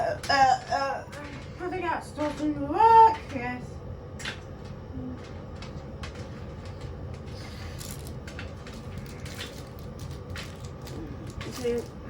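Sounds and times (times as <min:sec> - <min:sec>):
washing machine rumbling: 0:00.0 - 0:12.0.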